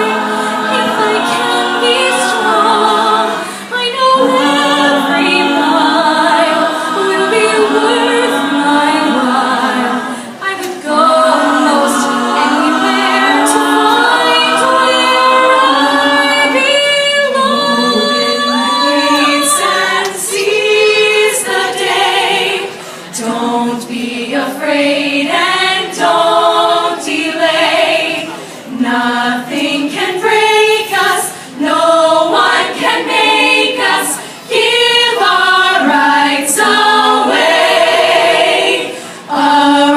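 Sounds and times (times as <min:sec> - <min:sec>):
women singing a cappella harmony: 0:00.0 - 0:39.9.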